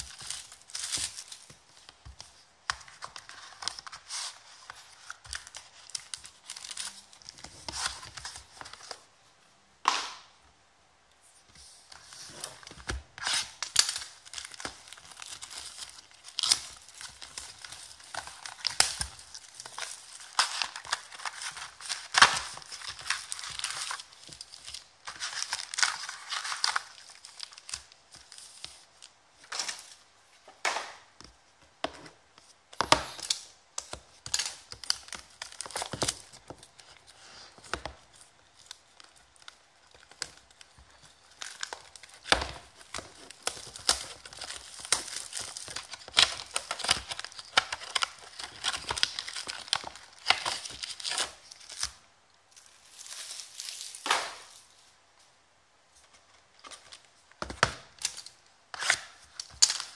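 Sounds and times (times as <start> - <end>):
plastic shrink-wrap crinkling: 0.0 - 9.1, 11.6 - 30.0, 32.4 - 54.9, 56.5 - 59.9.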